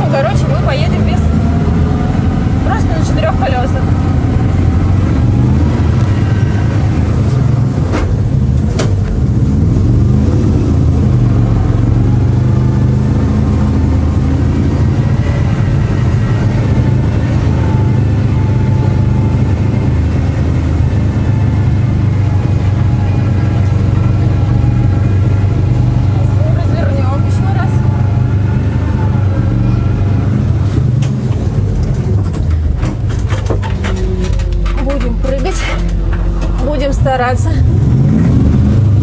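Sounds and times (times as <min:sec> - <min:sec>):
vehicle engine running under load: 0:00.0 - 0:39.0.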